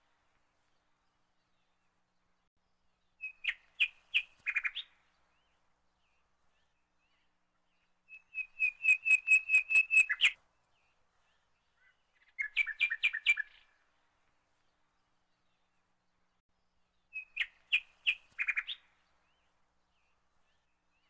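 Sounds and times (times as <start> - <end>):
small songbird chirping: 0.1 - 21.0.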